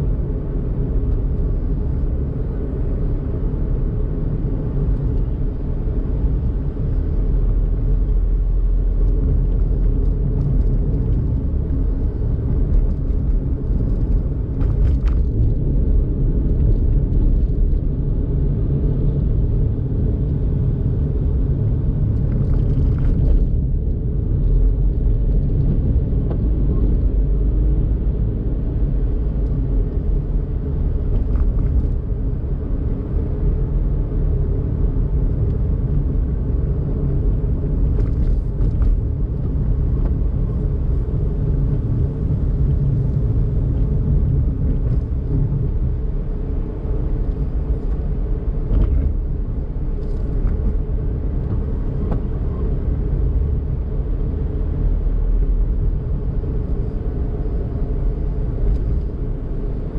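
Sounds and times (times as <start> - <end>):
small car engine and tyres rumbling: 0.0 - 59.9.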